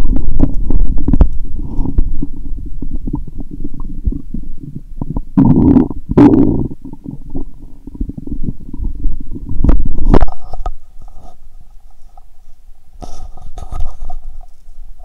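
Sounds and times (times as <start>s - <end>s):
stomach gurgling: 0.0s - 15.0s.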